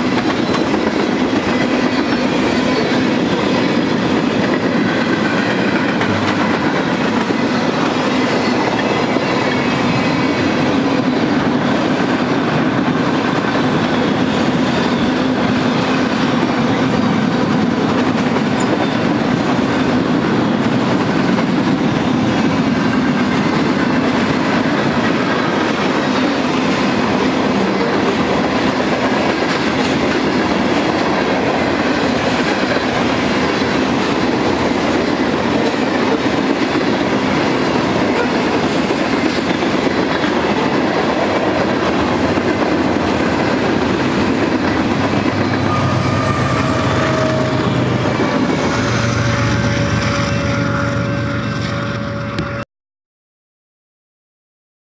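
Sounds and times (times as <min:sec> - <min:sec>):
freight train rolling past: 0:00.0 - 0:52.6
steel wheels on rail: 0:00.0 - 0:52.6.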